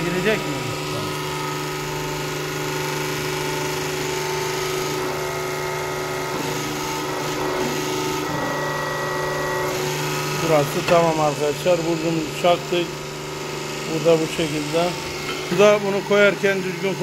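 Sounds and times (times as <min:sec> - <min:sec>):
press machine motor hum: 0:00.0 - 0:17.0.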